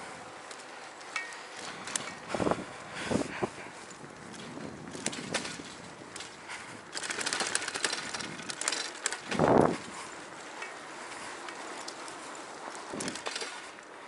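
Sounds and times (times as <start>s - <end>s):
camera rustle and clatter: 0.3s - 14.0s.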